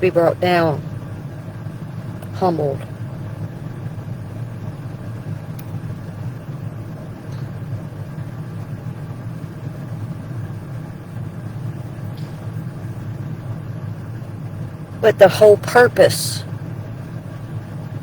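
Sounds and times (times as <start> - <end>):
low motor hum: 0.0 - 18.0.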